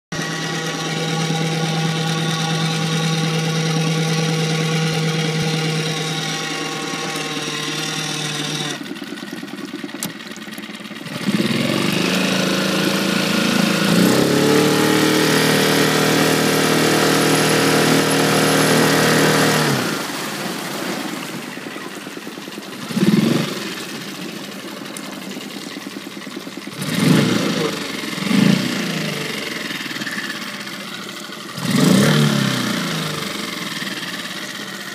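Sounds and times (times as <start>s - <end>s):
outboard motor running and revving: 0.0s - 34.9s.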